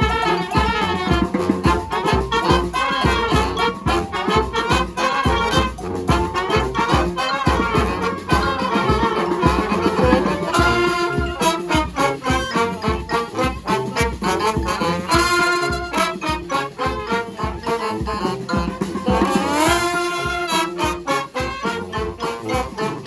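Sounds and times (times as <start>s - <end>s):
brass band playing: 0.0s - 23.0s
steady drum beat: 0.0s - 23.0s.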